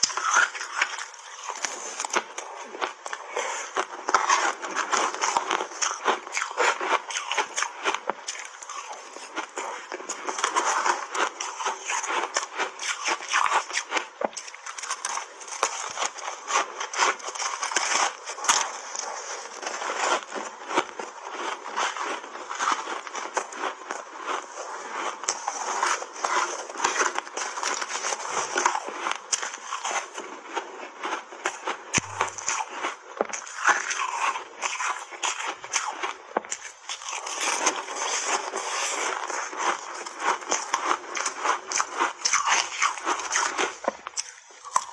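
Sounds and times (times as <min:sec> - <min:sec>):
crunching and chewing ice: 0:00.0 - 0:44.9.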